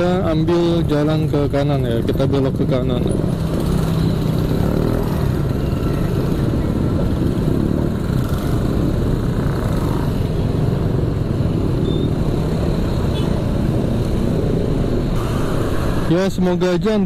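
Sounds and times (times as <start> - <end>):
motorbikes and scooters engines: 0.0 - 17.0.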